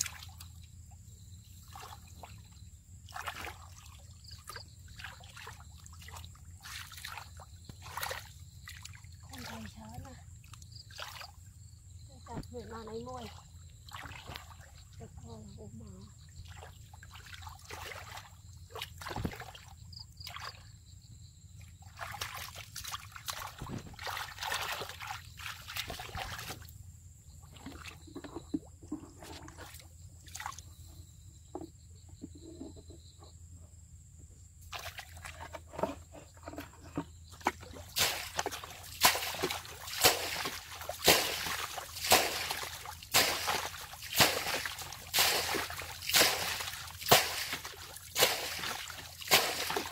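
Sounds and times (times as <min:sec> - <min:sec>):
bucket scooping water splashes: 0:00.0 - 0:00.6, 0:01.5 - 0:11.4, 0:12.2 - 0:15.6, 0:16.3 - 0:20.6, 0:21.8 - 0:26.7, 0:27.4 - 0:30.7, 0:34.6 - 0:49.9
water sloshing and splashing: 0:00.0 - 0:30.9, 0:34.6 - 0:49.9.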